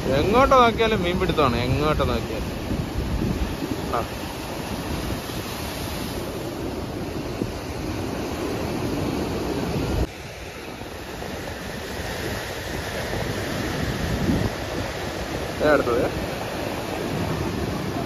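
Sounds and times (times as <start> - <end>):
sea surf washing against seawall: 0.0 - 18.0
wind rumbling on microphone: 0.0 - 18.0.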